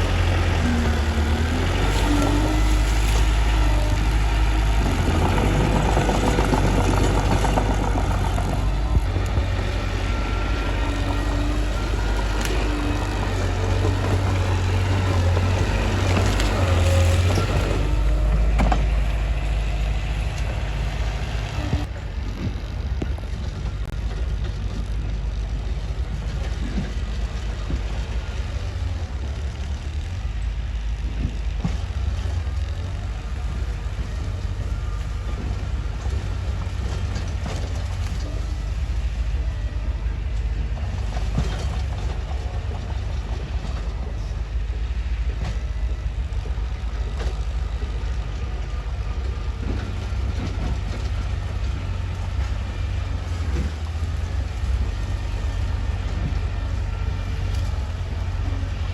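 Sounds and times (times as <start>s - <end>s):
bulldozer diesel engine rumbling: 0.0s - 58.9s
crawler tracks clanking: 0.0s - 58.9s.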